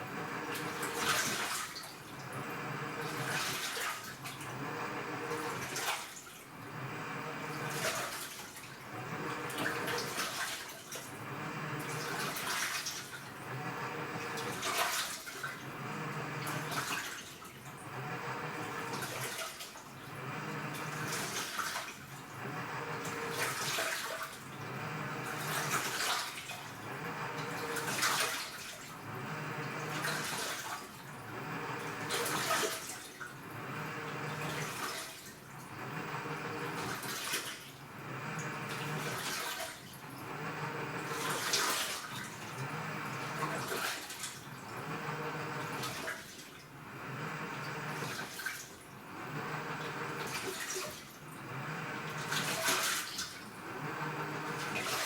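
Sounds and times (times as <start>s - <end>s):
washing machine motor humming: 0.0s - 55.0s.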